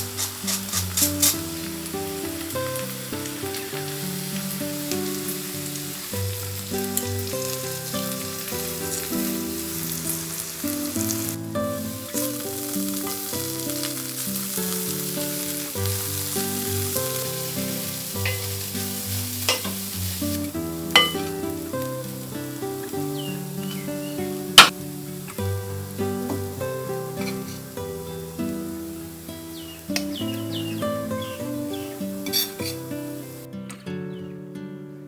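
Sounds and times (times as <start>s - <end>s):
food sizzling in a pan: 0.0s - 33.5s
soft instrumental music: 0.0s - 35.0s.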